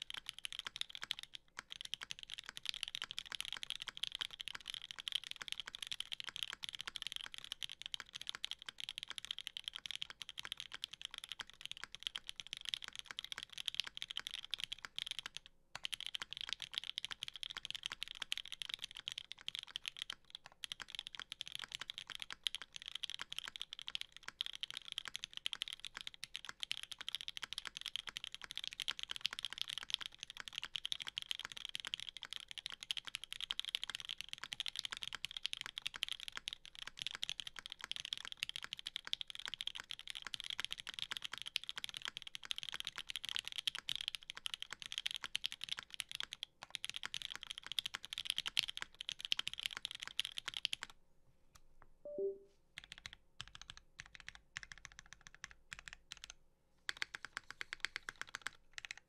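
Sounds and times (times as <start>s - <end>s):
mechanical keyboard typing: 0.0s - 51.0s, 52.1s - 59.0s.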